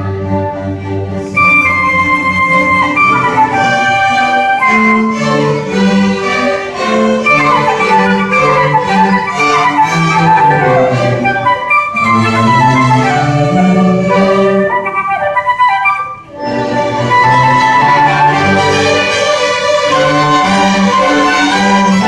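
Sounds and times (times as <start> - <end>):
low cello line: 0.0 - 22.0
orchestra playing classical music: 0.0 - 22.0
violins: 0.0 - 22.0.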